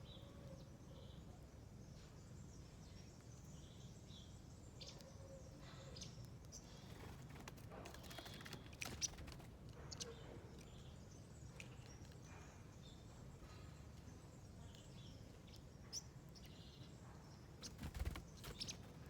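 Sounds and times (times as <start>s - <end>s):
low background hum: 0.0s - 19.0s
small birds chirping: 0.0s - 19.0s.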